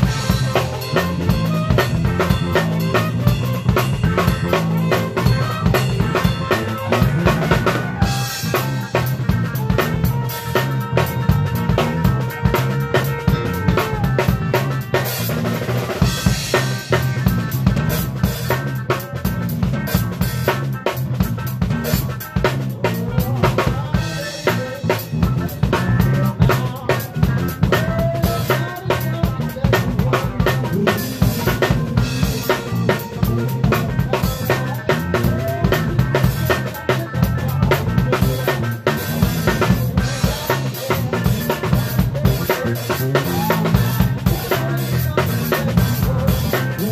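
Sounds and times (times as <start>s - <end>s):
live band playing: 0.0s - 46.9s.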